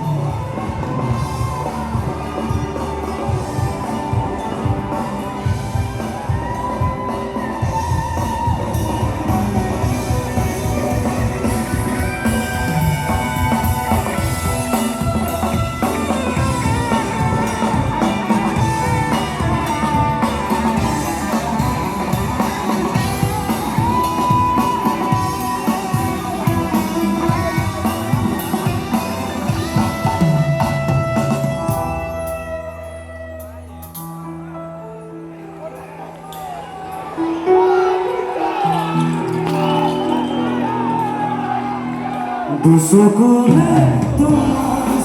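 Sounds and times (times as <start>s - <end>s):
live band playing instrumental: 0.0s - 34.6s, 35.3s - 45.0s.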